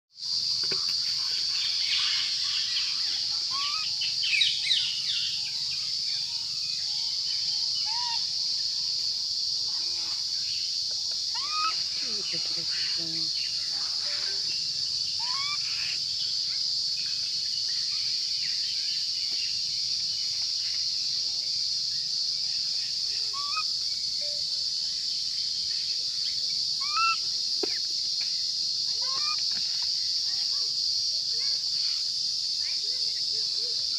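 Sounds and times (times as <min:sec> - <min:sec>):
high-pitched insect drone: 0:00.2 - 0:33.9
rising chirpy calls: 0:00.9 - 0:21.0, 0:22.0 - 0:27.8, 0:28.8 - 0:30.7.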